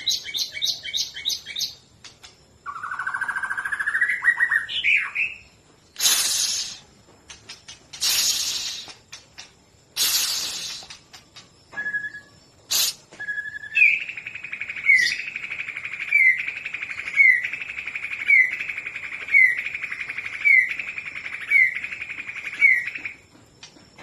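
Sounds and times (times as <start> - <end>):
bird singing buzzy trill: 0.0 - 23.8.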